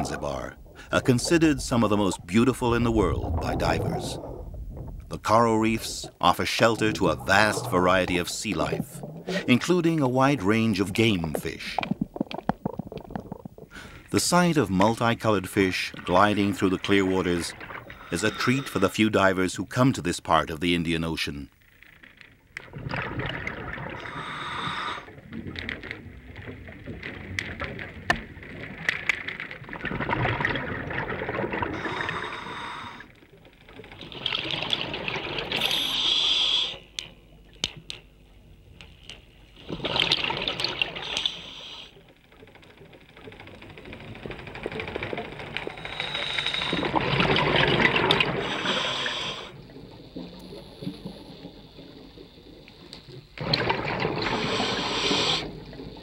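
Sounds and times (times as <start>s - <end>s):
underwater bubbling: 0.0s - 19.7s, 21.7s - 56.0s.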